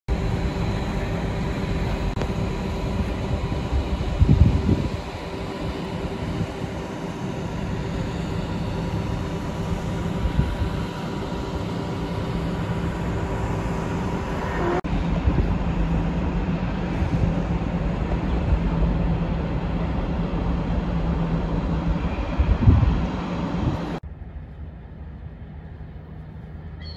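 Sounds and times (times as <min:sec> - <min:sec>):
electrical hum: 0:00.1 - 0:26.9
train wheels rumbling on rail: 0:00.1 - 0:26.9.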